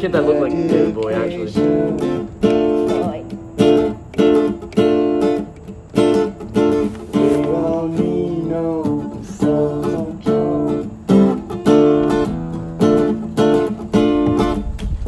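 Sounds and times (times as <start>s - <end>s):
acoustic guitar strumming chords: 0.0s - 15.0s
sliding bending guitar notes: 0.0s - 15.0s.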